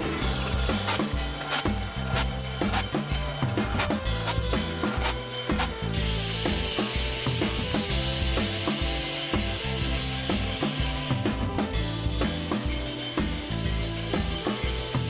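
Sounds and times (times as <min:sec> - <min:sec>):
angle grinder cutting steel: 0:00.0 - 0:15.0
background music with bass: 0:00.0 - 0:15.0.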